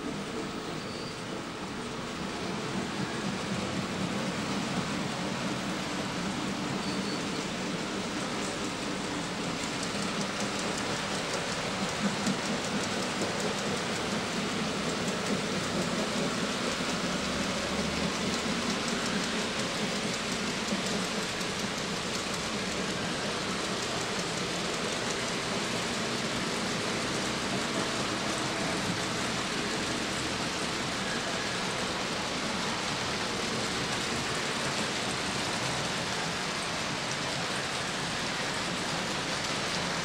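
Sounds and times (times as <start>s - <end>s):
model train wheels rushing on rails: 0.0s - 40.0s.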